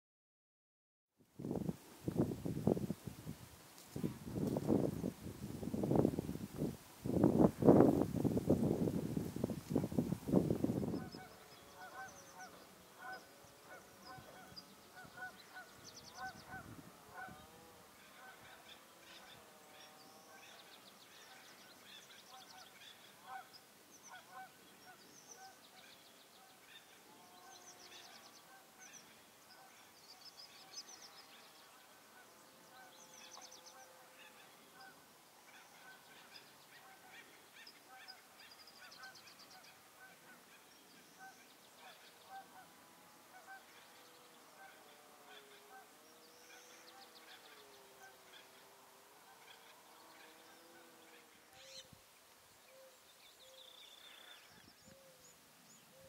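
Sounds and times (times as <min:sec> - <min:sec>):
faint bird calls: 0:10.8 - 0:56.0.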